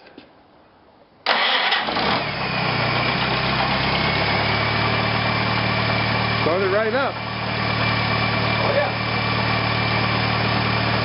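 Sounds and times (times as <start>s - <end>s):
tractor engine cranking and idling: 1.2s - 11.0s.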